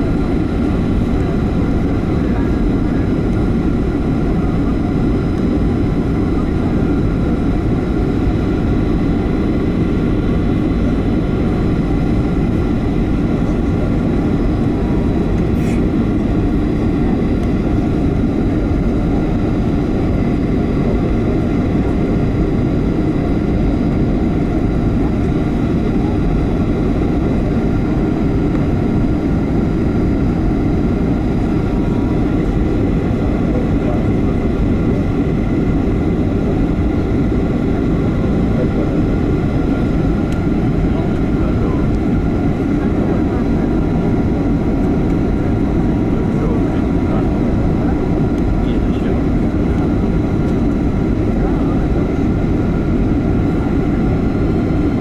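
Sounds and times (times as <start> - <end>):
low rumble of engines and airflow: 0.0 - 55.0.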